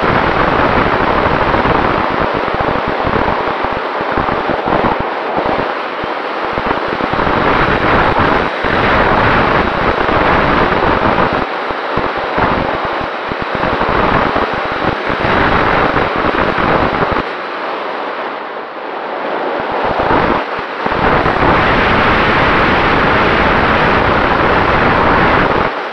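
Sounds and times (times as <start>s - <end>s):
wind rushing over microphone: 0.0s - 25.9s.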